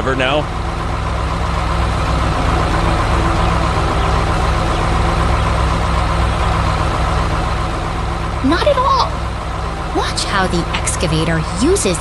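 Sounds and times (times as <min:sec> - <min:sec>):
large vehicle engine idling: 0:00.0 - 0:12.0.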